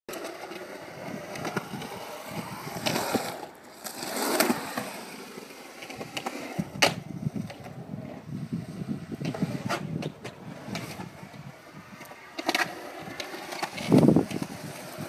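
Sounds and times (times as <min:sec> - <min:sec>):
skateboard wheels rolling on concrete: 0:00.1 - 0:15.0.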